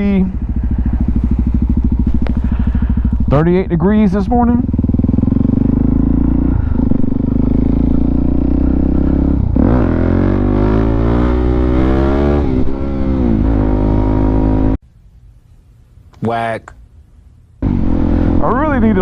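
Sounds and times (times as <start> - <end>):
motorcycle engine revving: 0.0 - 14.8, 17.6 - 19.0.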